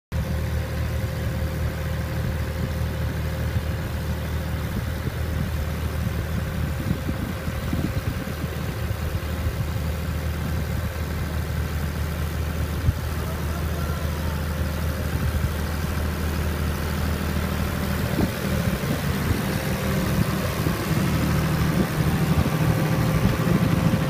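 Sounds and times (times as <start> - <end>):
tractor diesel engine running: 0.1 - 24.0
harvester mechanical rattling: 0.2 - 24.0.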